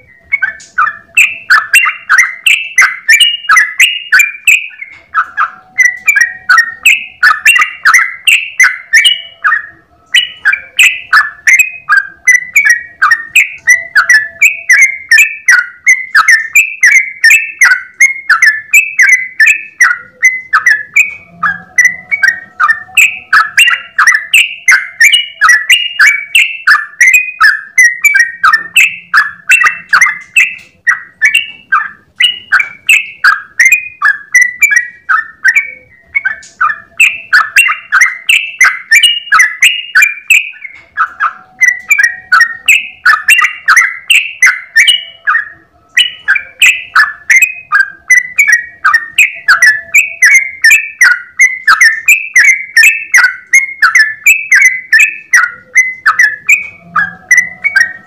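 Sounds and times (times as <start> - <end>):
bird singing bubbly notes: 0.0 - 58.0.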